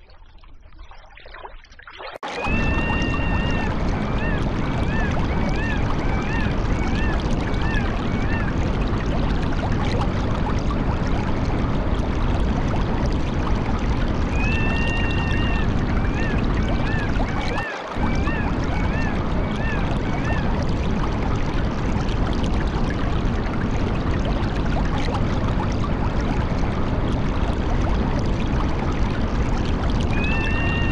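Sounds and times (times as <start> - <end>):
flowing water rushing: 2.0 - 30.9.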